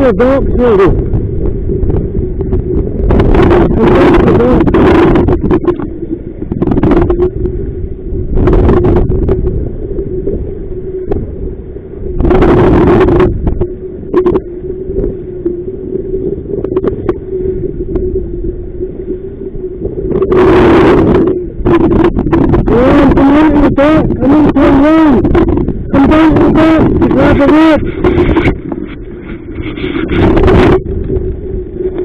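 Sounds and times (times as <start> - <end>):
steady low hum: 0.0 - 32.0
wind buffeting microphone: 0.0 - 32.0.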